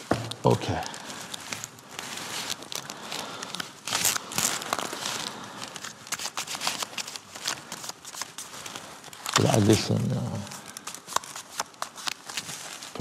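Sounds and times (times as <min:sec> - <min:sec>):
playing cards rustling and snapping: 0:00.0 - 0:13.0.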